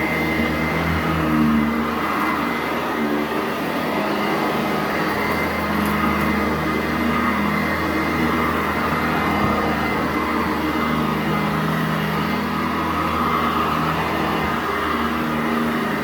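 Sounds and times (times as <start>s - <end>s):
vacuum cleaner on carpet: 0.0s - 16.0s.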